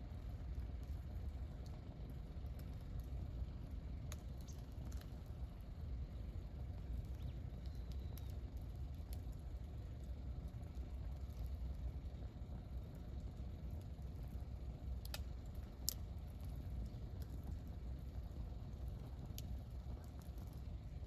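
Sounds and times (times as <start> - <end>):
campfire burning: 0.0 - 21.0
fire crackling pops: 0.0 - 21.0.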